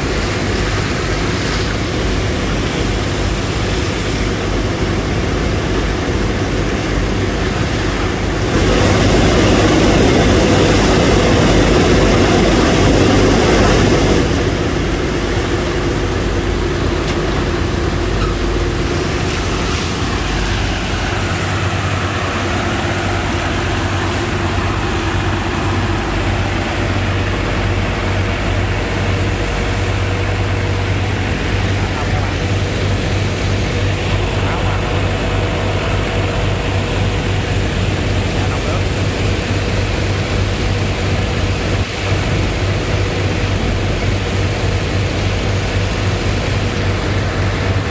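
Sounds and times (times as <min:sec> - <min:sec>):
pump engine running: 0:00.0 - 0:47.9.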